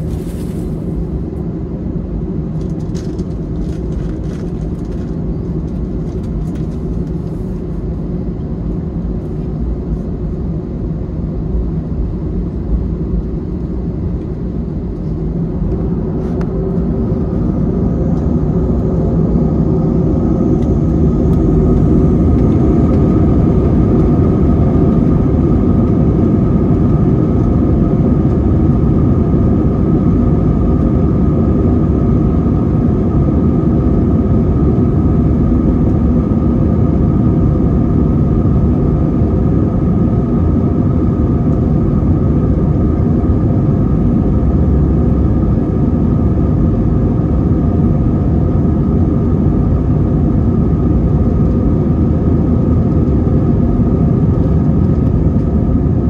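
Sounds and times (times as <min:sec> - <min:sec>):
jet engine low rumble: 0:00.0 - 0:56.0
engine whine rising in pitch: 0:10.4 - 0:56.0.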